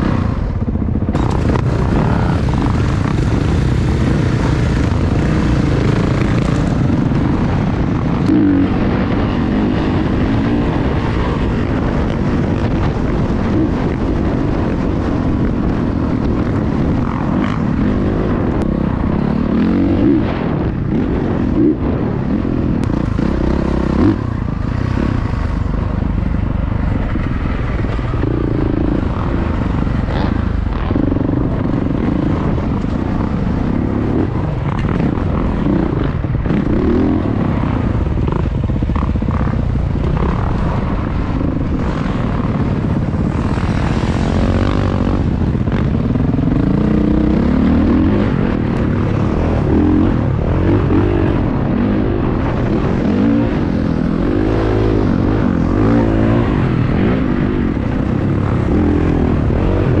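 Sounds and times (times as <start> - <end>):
dirt bike engine revving: 0.0 - 60.0
steady rushing noise: 0.0 - 60.0.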